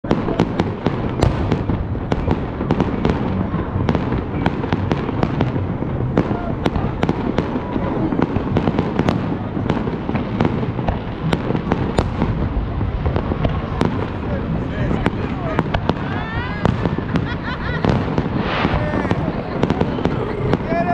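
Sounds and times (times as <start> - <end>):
fireworks booming: 0.0 - 20.9
fireworks cracks and pops: 0.0 - 20.9.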